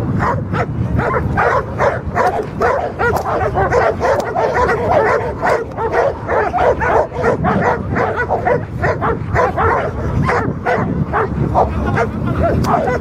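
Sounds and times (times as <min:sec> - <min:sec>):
dog barking rapidly: 0:00.0 - 0:13.0.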